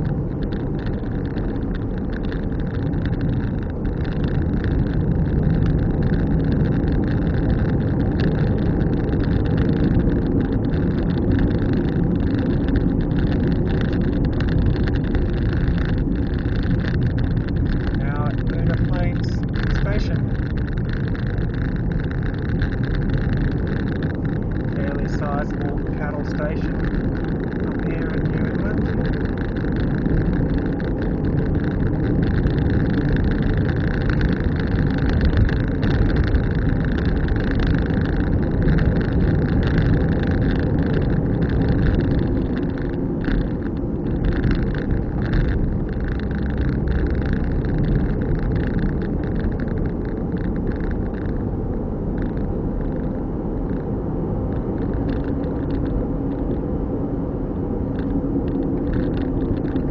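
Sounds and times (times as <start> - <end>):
car engine and tyre rumble: 0.0 - 59.9
crackles from road surface: 0.0 - 59.9.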